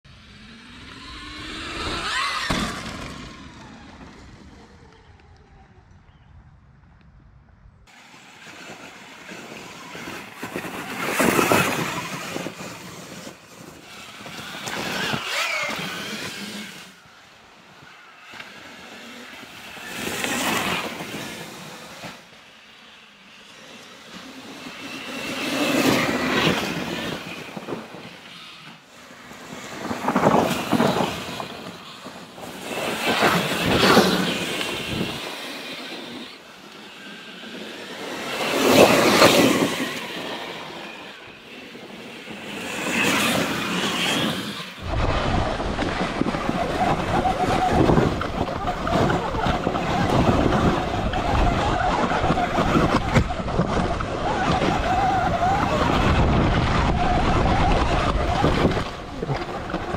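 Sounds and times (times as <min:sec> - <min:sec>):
electric dirt bike motor whine: 0:00.1 - 0:05.9, 0:07.9 - 0:59.9
tyre and wind noise: 0:00.1 - 0:59.9.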